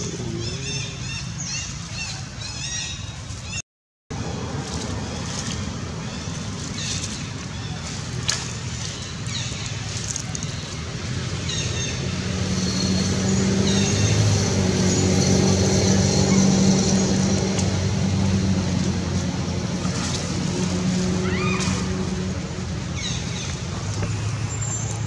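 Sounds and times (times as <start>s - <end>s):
vehicle engine humming: 0.0s - 3.5s, 4.1s - 25.0s.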